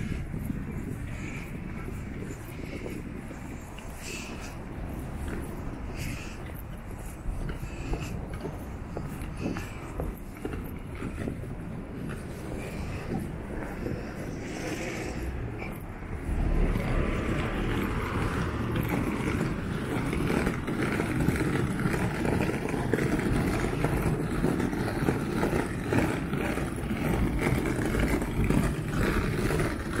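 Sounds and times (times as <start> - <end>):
suitcase wheels rumbling on asphalt: 0.0 - 30.0.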